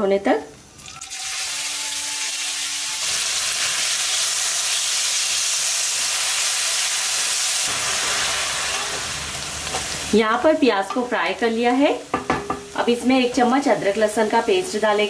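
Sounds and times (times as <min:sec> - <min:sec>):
onions sizzling in hot oil: 0:00.8 - 0:15.0.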